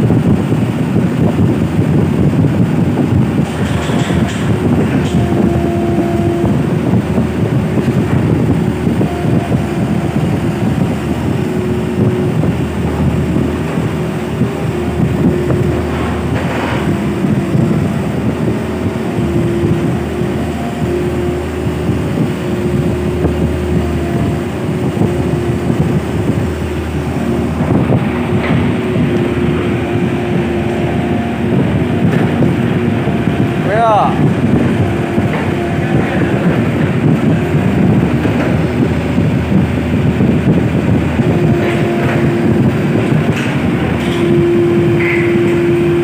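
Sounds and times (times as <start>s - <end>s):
excavator diesel engine running: 0.0s - 46.0s
hydraulic whine: 0.0s - 46.0s.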